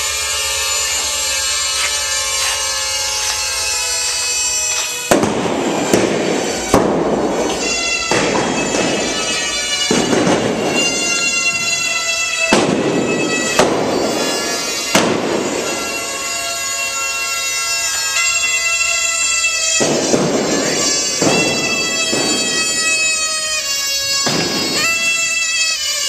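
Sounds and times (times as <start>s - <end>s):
balloons squealing: 0.2s - 26.0s
balloons popping: 4.8s - 26.0s.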